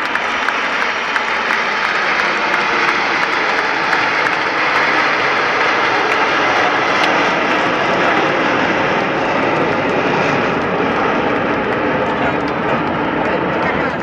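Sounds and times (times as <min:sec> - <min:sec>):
jet aircraft roaring overhead: 0:00.0 - 0:14.0.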